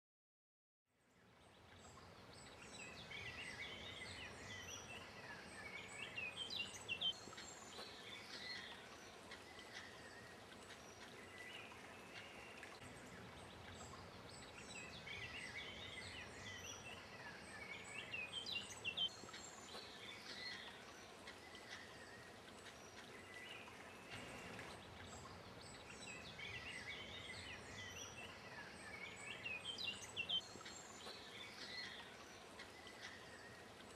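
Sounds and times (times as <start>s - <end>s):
steady outdoor hiss: 1.0s - 33.9s
birds singing and chirping: 1.8s - 33.9s.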